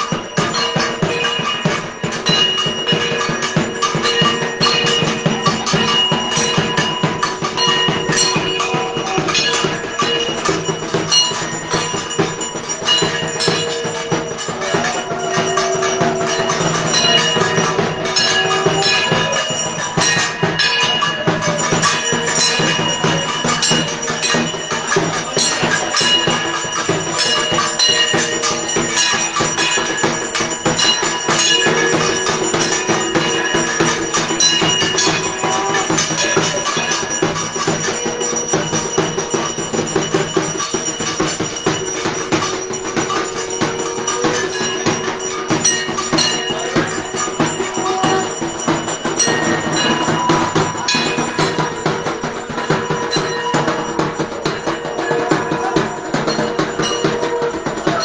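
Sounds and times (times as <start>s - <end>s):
bells and metal percussion ringing: 0.0s - 58.0s
fast struck percussion beat: 0.0s - 58.0s.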